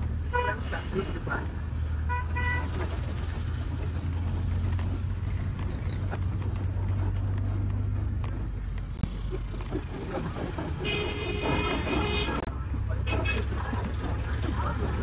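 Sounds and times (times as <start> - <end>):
car engine and road rumble: 0.0 - 15.0
faint street noise: 0.0 - 15.0.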